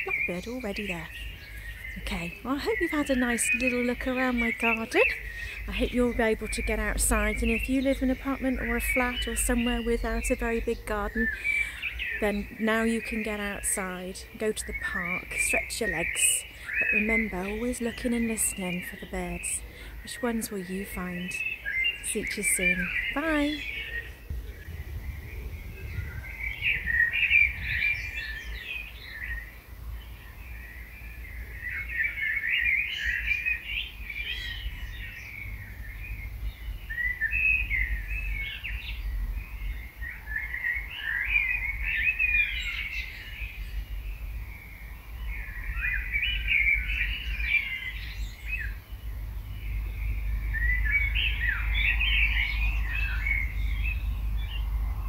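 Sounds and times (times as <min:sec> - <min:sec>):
low steady rumble: 0:00.0 - 0:31.5, 0:33.8 - 0:40.9, 0:41.6 - 0:55.0
songbird singing: 0:00.0 - 0:55.0.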